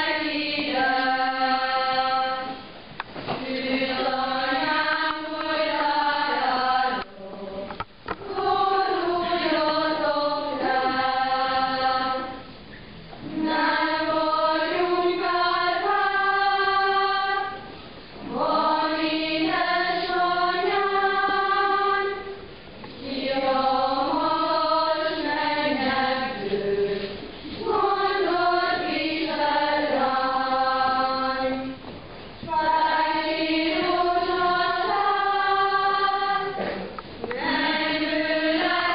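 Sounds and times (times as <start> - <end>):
congregation singing a hymn: 0.0 - 12.6, 13.2 - 38.9.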